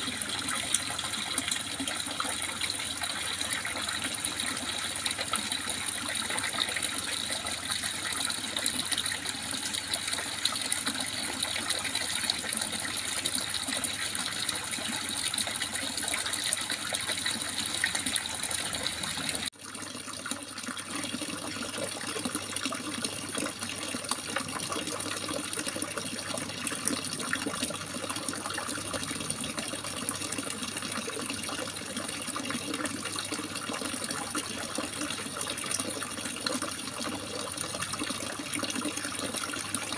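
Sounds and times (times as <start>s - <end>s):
babbling trickling water: 0.0s - 39.9s.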